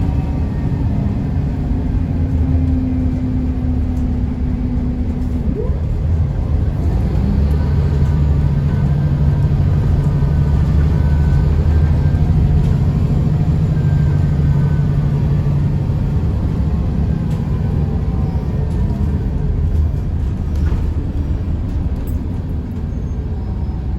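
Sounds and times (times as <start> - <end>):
bus diesel engine droning: 0.0 - 23.9.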